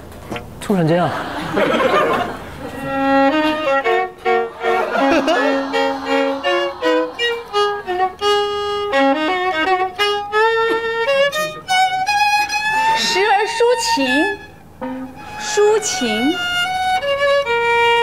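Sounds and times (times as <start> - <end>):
solo violin melody: 2.7 - 18.0.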